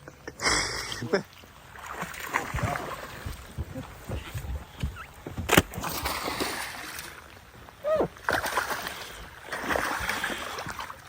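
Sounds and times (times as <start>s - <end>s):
fish splashing in water: 0.5s - 11.0s.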